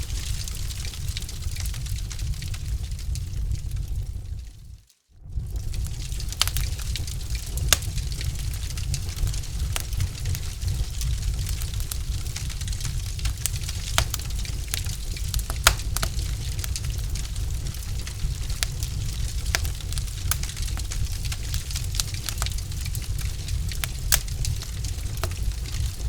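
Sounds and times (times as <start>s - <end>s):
logs crackling in fireplace: 0.0s - 26.0s.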